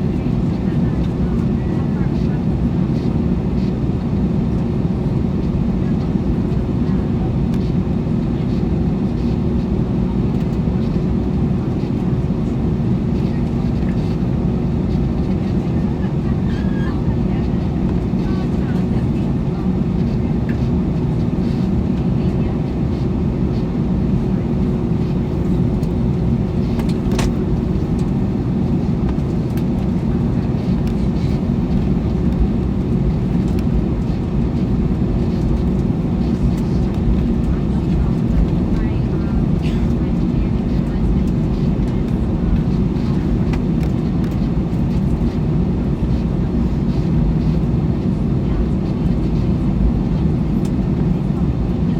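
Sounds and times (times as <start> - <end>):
air conditioning: 0.0 - 51.9
aircraft engines rumbling: 0.0 - 51.9
steady cabin hum: 0.0 - 51.9.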